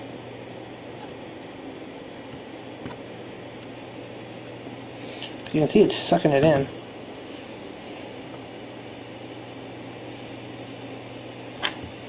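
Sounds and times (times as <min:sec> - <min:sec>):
gas soldering iron hissing: 0:00.0 - 0:12.0.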